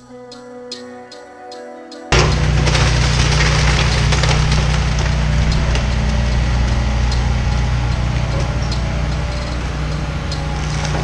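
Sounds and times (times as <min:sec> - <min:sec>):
excavator diesel engine running: 0:02.2 - 0:11.0
wood cracking and splintering: 0:02.2 - 0:11.0.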